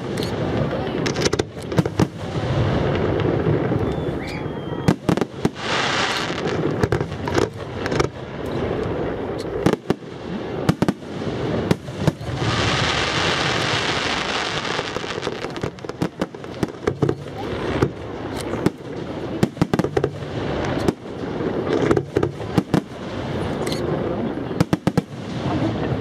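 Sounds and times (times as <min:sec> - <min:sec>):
fireworks bangs: 0:00.0 - 0:26.0
fireworks hissing: 0:00.0 - 0:26.0.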